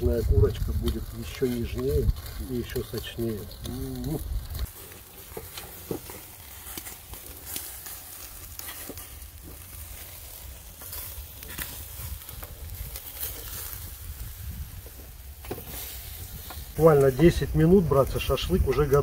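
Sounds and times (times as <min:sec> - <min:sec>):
fat crackling and popping: 0:00.0 - 0:19.0
meat sizzling over charcoal: 0:00.0 - 0:19.0.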